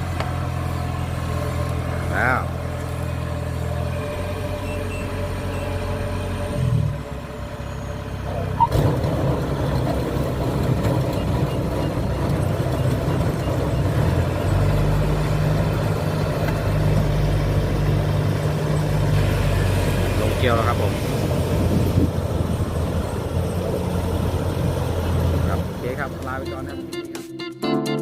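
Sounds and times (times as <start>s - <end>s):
diesel engine running: 0.0s - 27.1s.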